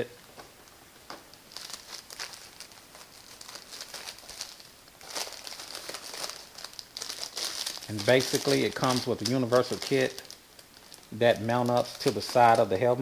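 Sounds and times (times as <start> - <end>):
plastic bags crinkling: 0.3 - 13.0.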